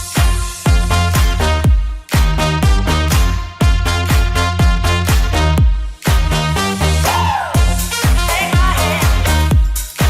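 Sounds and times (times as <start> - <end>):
dance music with kick beat: 0.0 - 10.0.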